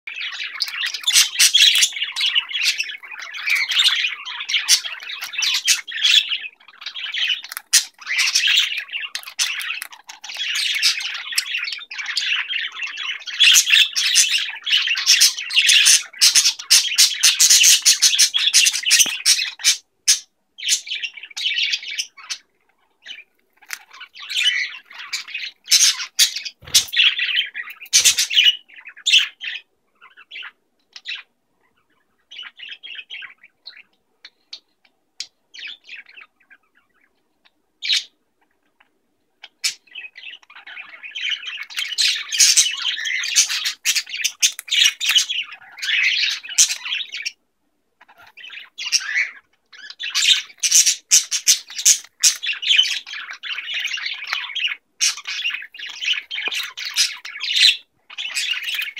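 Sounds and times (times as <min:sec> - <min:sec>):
budgerigars chattering: 0:00.1 - 0:38.8, 0:39.4 - 0:47.4, 0:48.0 - 0:58.9.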